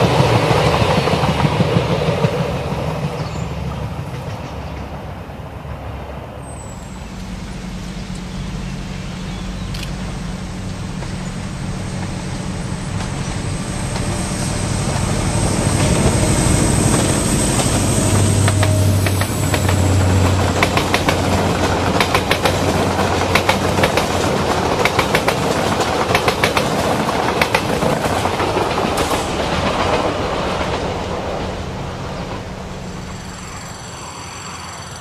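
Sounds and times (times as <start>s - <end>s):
train wheels clattering on rails: 0.0s - 5.3s, 9.6s - 33.4s
locomotive engine drone: 3.4s - 35.0s.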